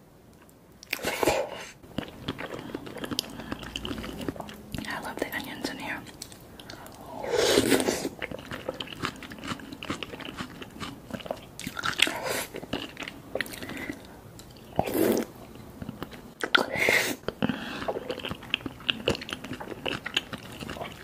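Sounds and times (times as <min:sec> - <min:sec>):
person chewing wetly: 0:00.4 - 0:05.5, 0:06.1 - 0:21.0.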